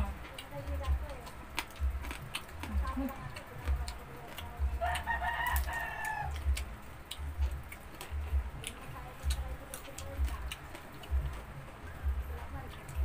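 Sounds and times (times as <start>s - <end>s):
crunchy chewing: 0.0s - 13.0s.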